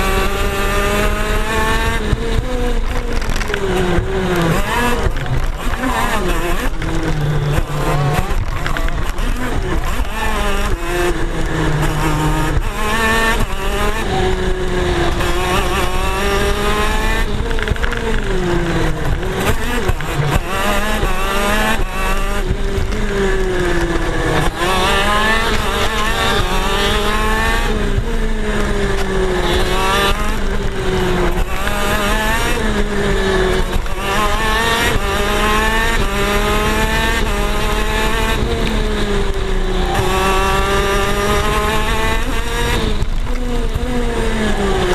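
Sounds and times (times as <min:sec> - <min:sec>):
kart engine revving: 0:00.0 - 0:44.9.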